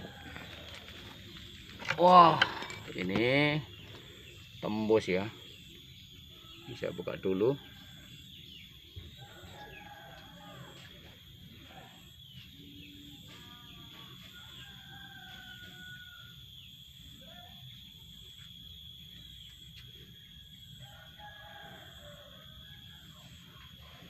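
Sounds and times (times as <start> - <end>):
faint chicken calls: 0.0 - 24.0
steady high-pitched whine: 0.0 - 24.0.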